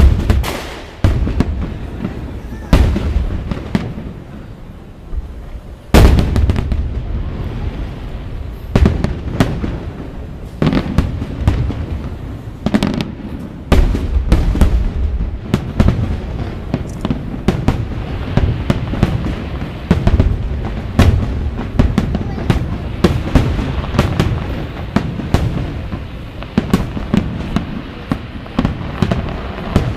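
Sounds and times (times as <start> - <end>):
firework boom: 0.0 - 4.5, 5.1 - 27.8
firework bangs and crackles: 0.0 - 29.9.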